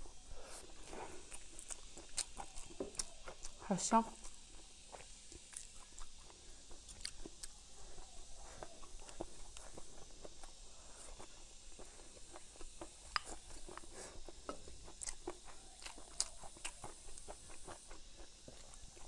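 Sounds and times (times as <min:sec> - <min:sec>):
wet chewing with crunches: 0:00.0 - 0:19.0.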